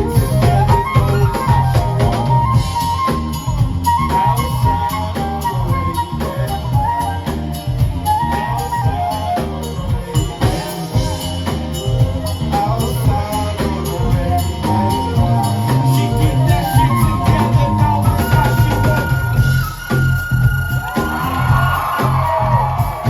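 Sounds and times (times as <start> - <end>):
bass: 0.0 - 23.0
drum beat: 0.0 - 23.0
lead melody: 0.0 - 23.0.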